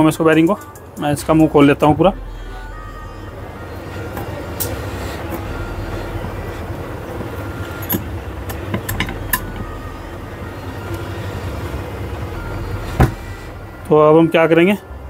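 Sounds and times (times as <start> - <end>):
low background rumble: 1.2 - 13.9.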